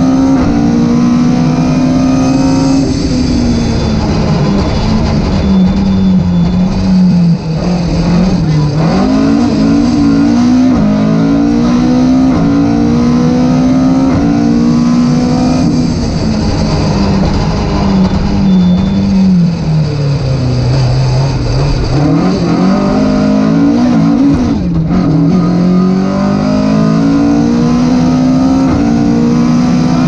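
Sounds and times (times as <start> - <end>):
rally car engine accelerating: 0.0 - 30.0.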